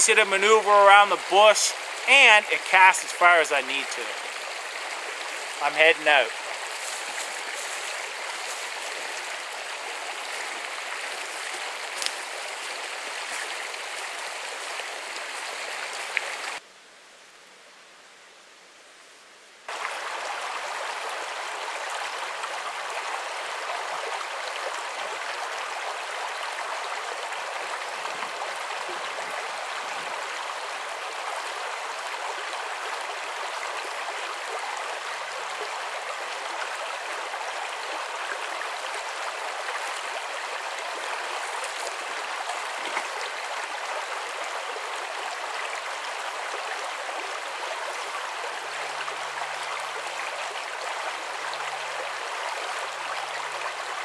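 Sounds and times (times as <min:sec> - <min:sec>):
brook running over stones: 0:00.0 - 0:16.6, 0:19.7 - 0:54.0.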